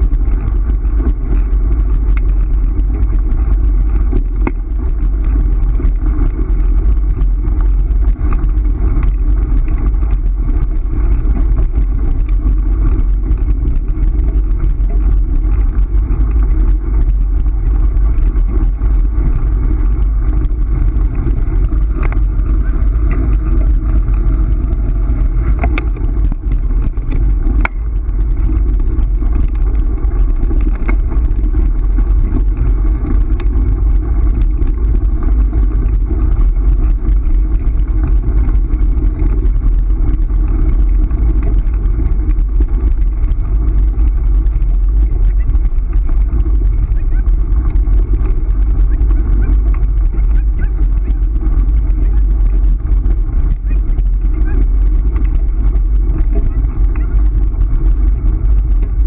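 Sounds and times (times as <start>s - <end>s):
tyres rumbling on gravel: 0.0s - 59.0s
wind buffeting microphone: 0.0s - 59.0s.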